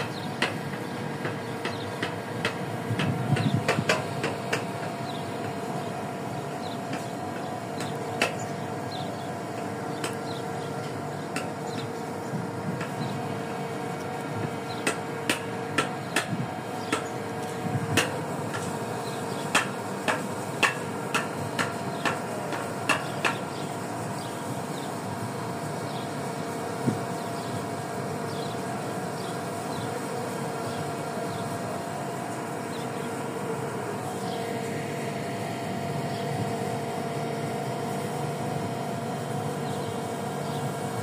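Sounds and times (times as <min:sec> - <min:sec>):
boat machinery humming: 0:00.0 - 0:41.0.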